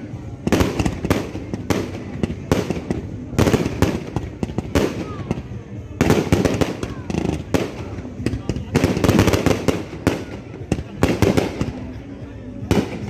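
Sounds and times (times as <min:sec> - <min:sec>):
fireworks shots and bursts: 0:00.0 - 0:13.0.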